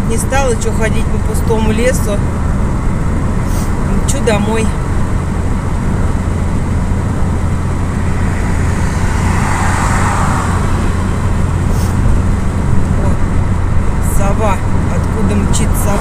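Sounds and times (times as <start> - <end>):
road and engine noise in car: 0.0 - 16.0.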